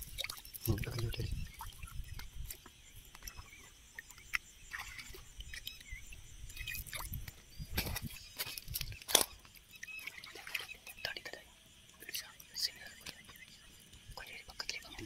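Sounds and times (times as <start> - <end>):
small water splashes and drips: 0.0 - 15.0.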